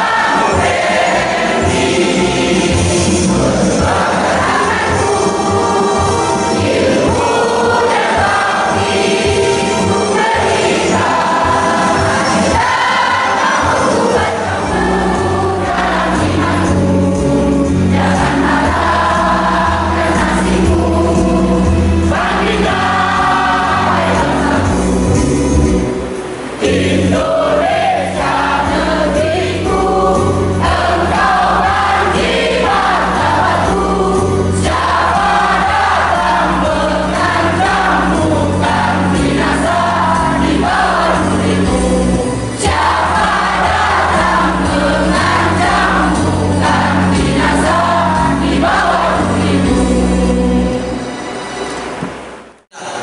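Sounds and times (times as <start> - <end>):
crowd singing in unison: 0.0 - 53.0
music accompaniment: 0.0 - 53.0.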